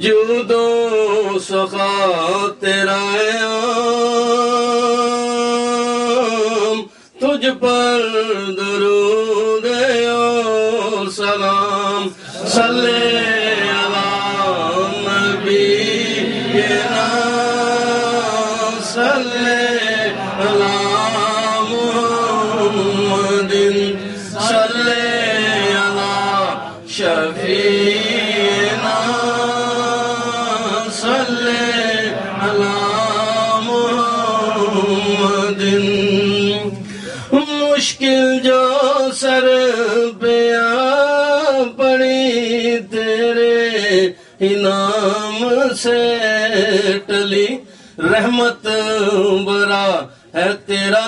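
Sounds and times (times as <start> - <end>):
men chanting devotional refrain: 0.0 - 51.0.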